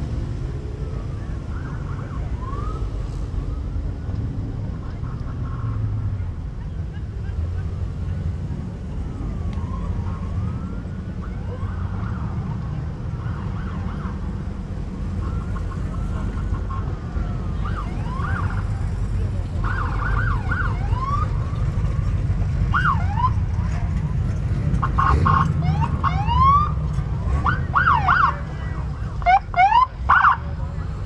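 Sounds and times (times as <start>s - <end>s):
cars rumbling past slowly: 0.0s - 31.0s
police siren wailing: 0.1s - 4.8s, 7.0s - 24.2s, 24.8s - 30.6s.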